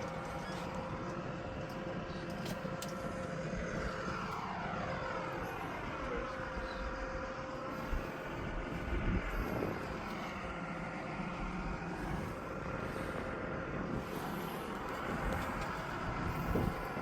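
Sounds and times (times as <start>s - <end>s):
propeller aircraft engine: 0.0s - 17.0s
wind rumble on microphone: 0.0s - 17.0s.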